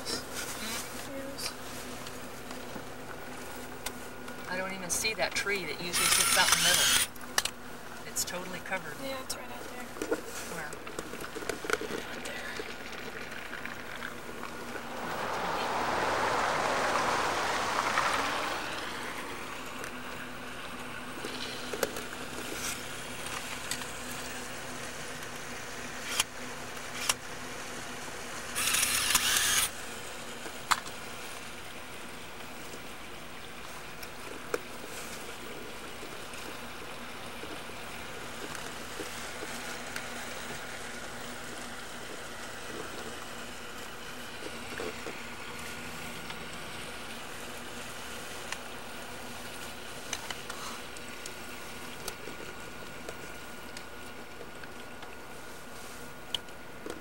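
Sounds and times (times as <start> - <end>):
steady hiss and hum: 6.8 - 57.0.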